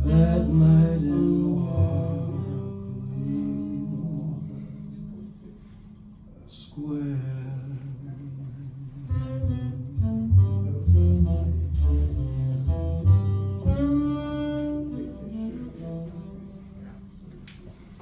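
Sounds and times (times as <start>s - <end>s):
jazz ballad on hi-fi: 0.0s - 5.9s, 6.6s - 17.9s.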